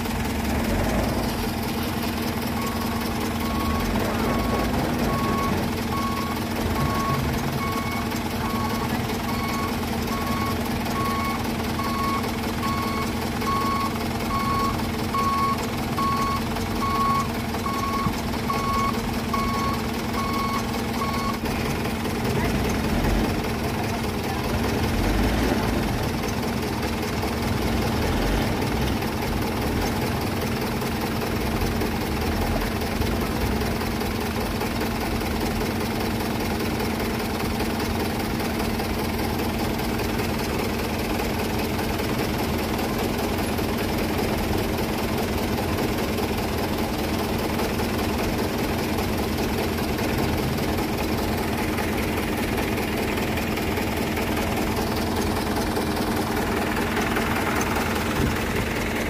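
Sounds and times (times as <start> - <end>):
truck diesel engine idling: 0.0 - 59.0.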